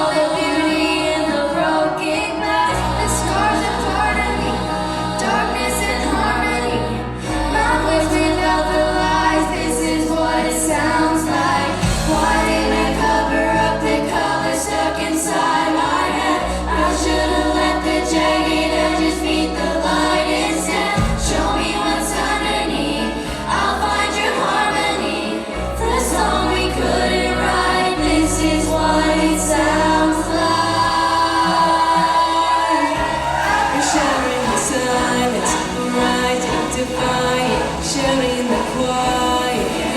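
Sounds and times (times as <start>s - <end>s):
low bass notes: 0.0s - 39.9s
vocal group singing pop song: 0.0s - 39.9s.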